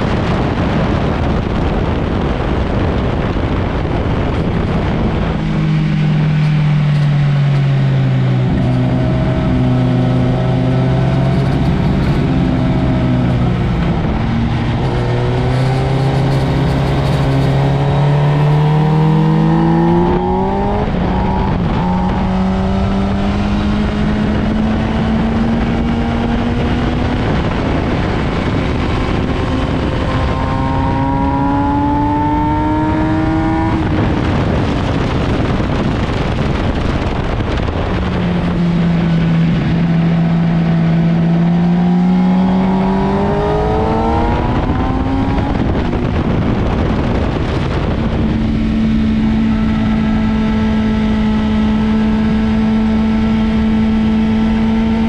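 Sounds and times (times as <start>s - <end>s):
heavy wind noise: 0.0s - 55.0s
motorcycle engine accelerating: 0.0s - 55.0s.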